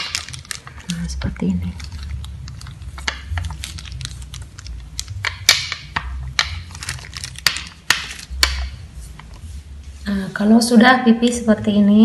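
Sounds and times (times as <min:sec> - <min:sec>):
plastic wrap crinkling: 0:00.0 - 0:10.2.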